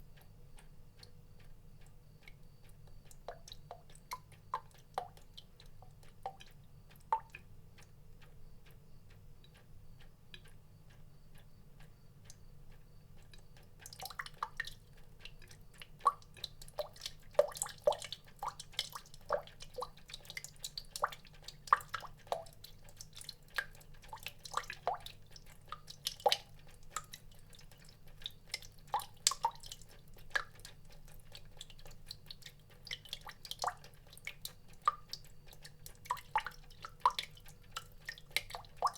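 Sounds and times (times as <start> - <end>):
water dripping: 1.0 - 8.6, 11.9 - 38.9.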